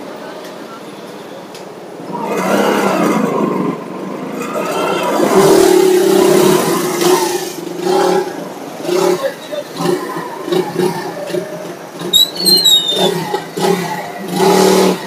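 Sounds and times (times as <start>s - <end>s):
vehicle engines revving past: 2.0s - 15.0s.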